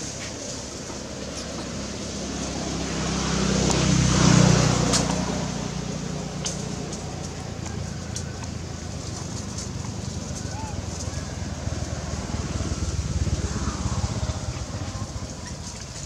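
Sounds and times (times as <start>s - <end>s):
motor engine passing by: 0.0s - 16.0s.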